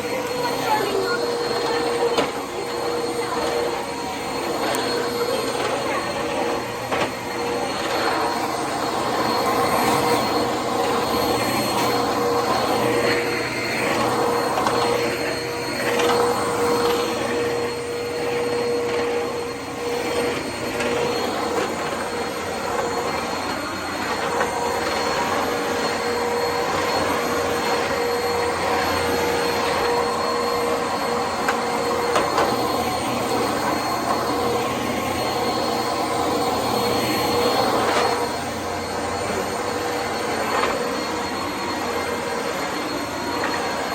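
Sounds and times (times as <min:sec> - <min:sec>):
upright vacuum cleaner running: 0:00.0 - 0:43.9.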